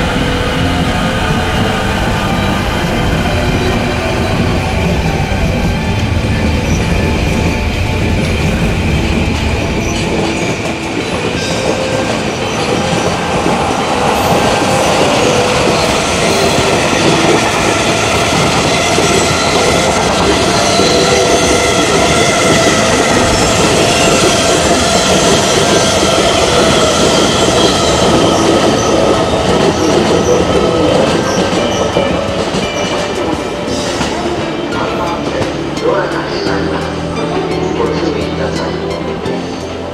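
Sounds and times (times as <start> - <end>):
train wheels clattering over rails: 0.0 - 36.8
train wheel squeal: 0.1 - 34.4.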